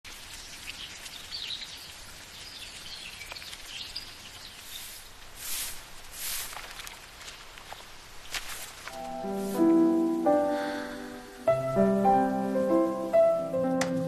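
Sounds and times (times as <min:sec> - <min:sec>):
small birds chirping: 0:00.1 - 0:11.9
steady background hiss: 0:00.1 - 0:14.0.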